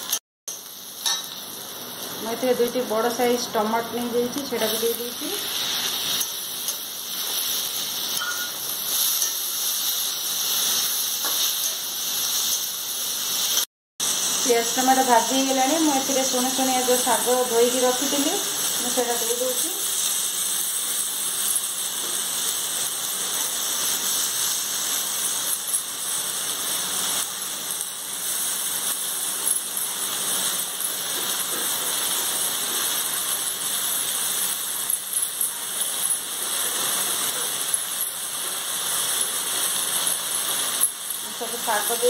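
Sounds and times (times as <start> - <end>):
greens sizzling in hot oil: 0.0 - 42.0
small crackles of frying: 0.0 - 42.0.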